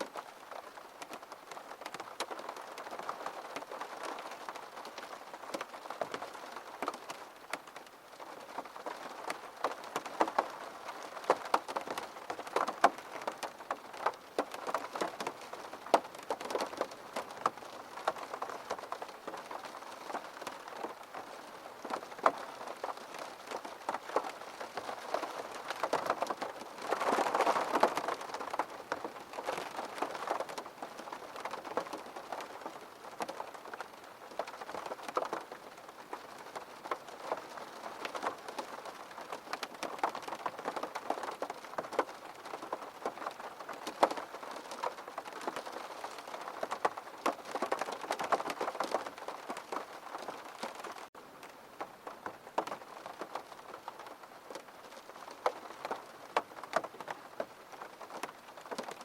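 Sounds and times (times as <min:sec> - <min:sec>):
rain falling: 0:00.0 - 0:59.0
raindrops ticking: 0:00.0 - 0:59.0.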